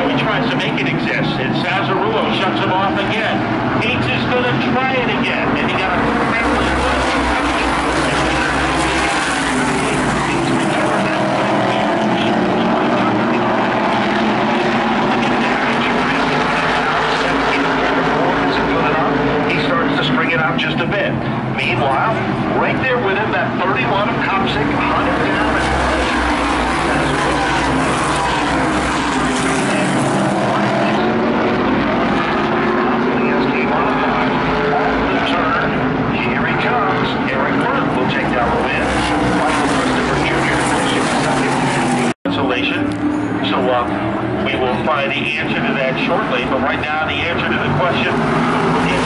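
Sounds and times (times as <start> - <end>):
car engine accelerating: 0.0 - 49.0
race car engines droning: 0.0 - 49.0.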